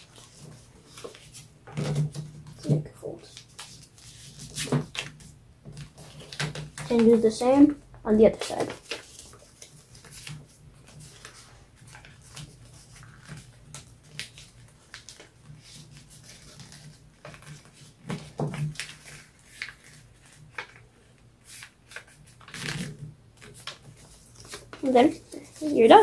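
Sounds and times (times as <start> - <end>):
paper rustling and crinkling: 0.0 - 26.0.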